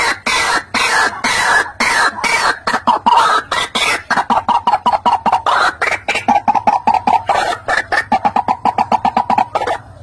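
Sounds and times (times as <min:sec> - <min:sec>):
bird harsh repeated notes: 0:00.0 - 0:10.0
bird rasping calls: 0:00.0 - 0:10.0.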